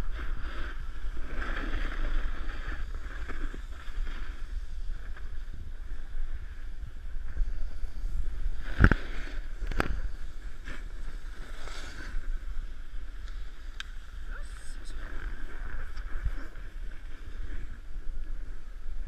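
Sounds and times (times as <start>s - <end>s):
snowboard scraping over snow: 0.0s - 19.0s
wind rumbling on microphone: 0.0s - 19.0s.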